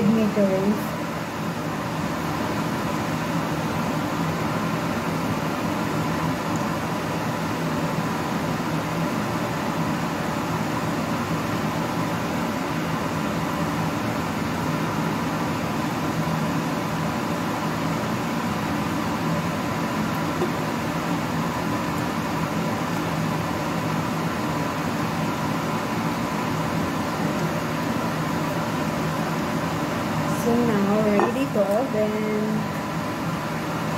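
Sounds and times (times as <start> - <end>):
electric fan humming: 0.0 - 33.9.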